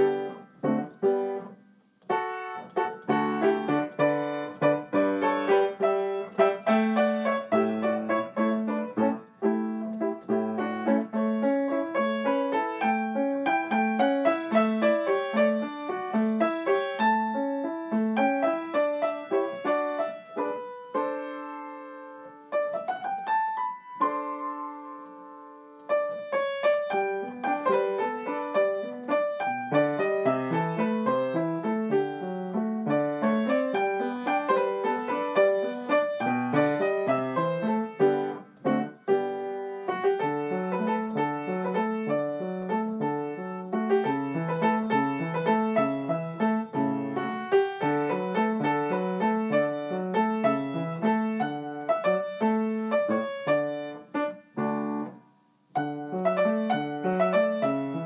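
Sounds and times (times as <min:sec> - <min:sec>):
solo piano music: 0:00.0 - 0:58.0.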